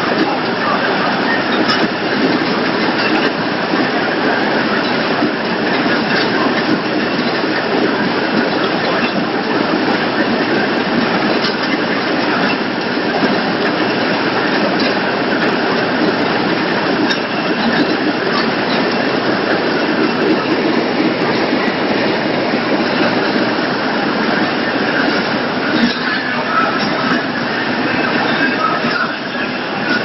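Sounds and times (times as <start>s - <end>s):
machinery clattering and rattling: 0.0s - 30.0s.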